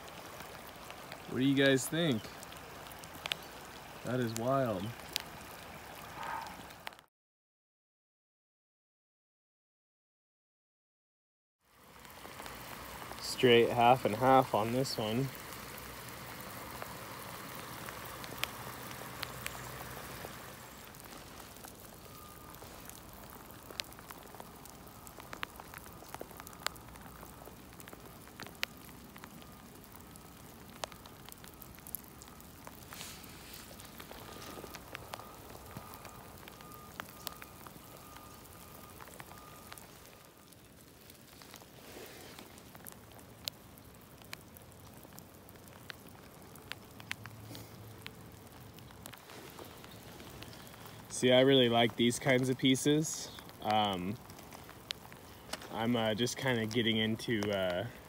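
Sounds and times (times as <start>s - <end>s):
light rain falling: 0.0s - 7.1s, 11.6s - 58.0s
raindrops ticking: 0.0s - 7.1s, 11.7s - 58.0s.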